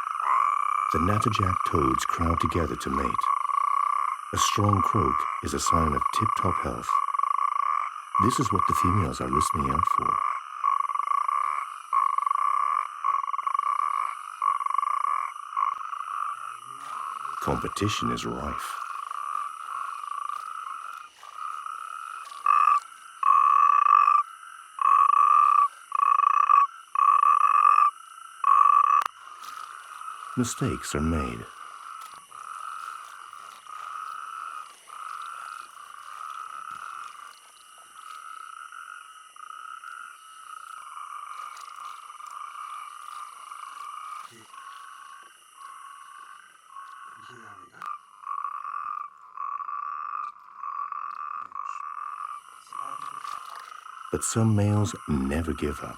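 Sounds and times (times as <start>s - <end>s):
toads trilling: 0.0s - 55.9s.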